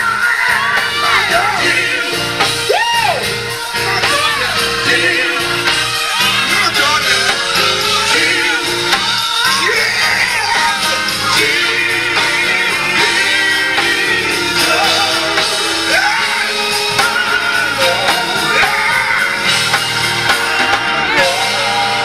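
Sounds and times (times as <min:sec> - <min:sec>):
men singing gospel: 0:00.0 - 0:22.0.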